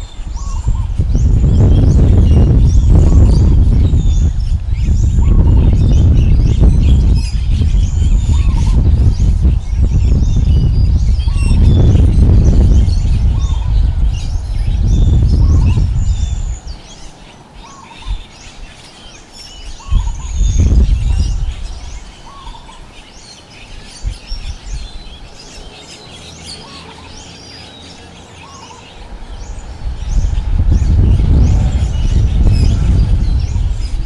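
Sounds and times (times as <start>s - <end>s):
birds chirping: 0.0s - 34.0s
wind buffeting microphone: 0.0s - 34.0s.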